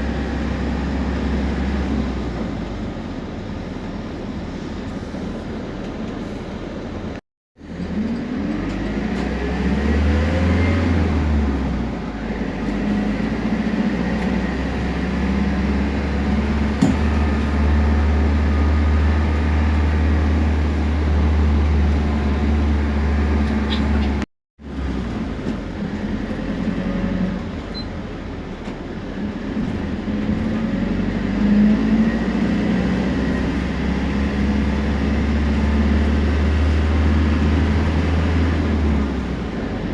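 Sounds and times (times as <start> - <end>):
diesel bus engine drone: 0.0 - 39.9
turbo and differential whine: 0.0 - 39.9.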